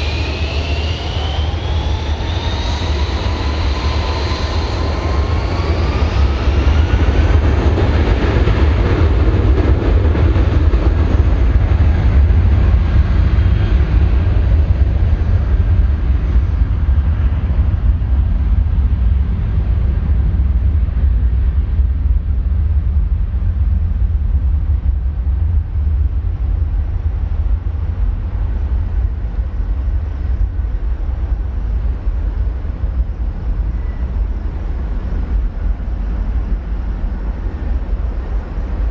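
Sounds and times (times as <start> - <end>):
jet engines roaring at takeoff: 0.0 - 38.9.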